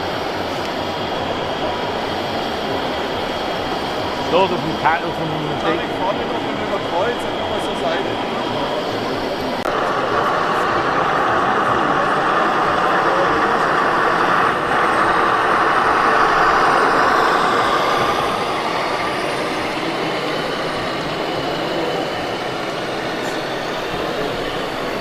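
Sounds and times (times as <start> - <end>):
diesel engine sound through small speaker: 0.0 - 25.0.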